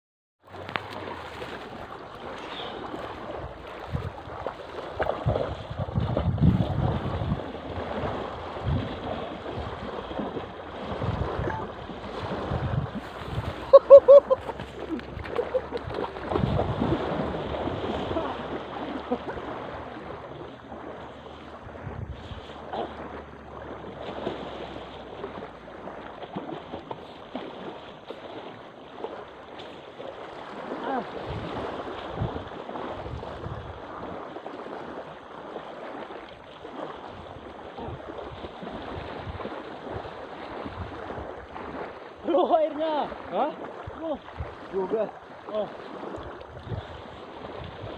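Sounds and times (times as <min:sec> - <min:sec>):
lake water splashing: 0:00.4 - 0:47.9
wind buffeting microphone: 0:00.8 - 0:27.8, 0:30.3 - 0:35.2, 0:36.7 - 0:45.1, 0:45.9 - 0:47.9.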